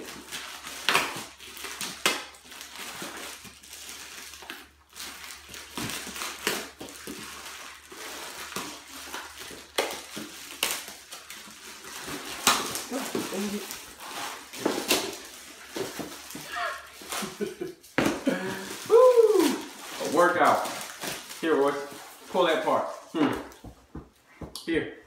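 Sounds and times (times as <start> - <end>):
plastic wrap crinkling and tearing: 0.0 - 23.6.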